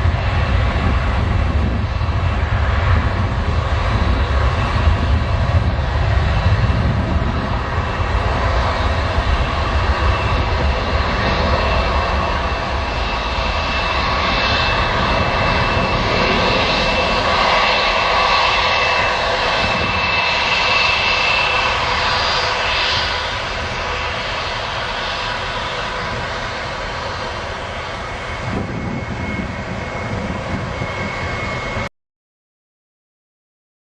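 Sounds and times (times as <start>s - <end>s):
jet engines running: 0.0s - 31.9s.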